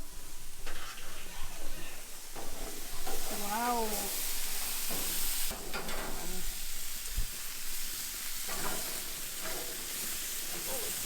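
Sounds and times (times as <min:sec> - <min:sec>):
burger patties sizzling: 0:00.0 - 0:11.0.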